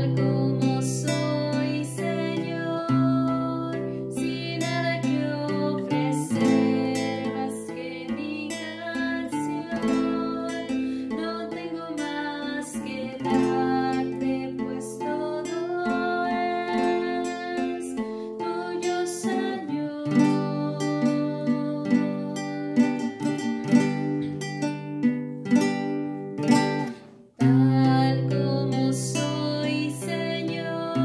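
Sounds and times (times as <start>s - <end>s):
classical guitar strumming chords: 0.0s - 31.0s.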